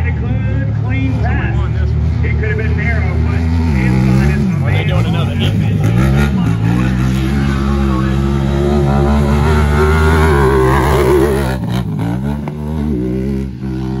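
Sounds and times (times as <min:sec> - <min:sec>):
off-road vehicle engine revving hard: 0:01.9 - 0:14.0.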